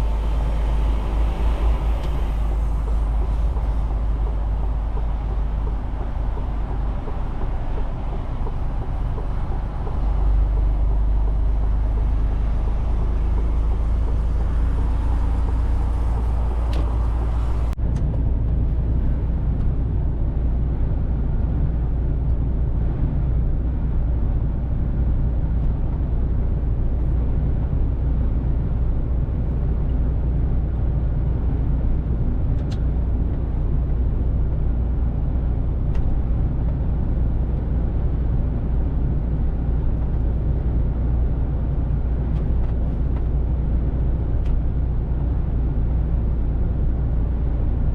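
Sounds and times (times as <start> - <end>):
truck engine and road rumble: 0.0 - 47.9.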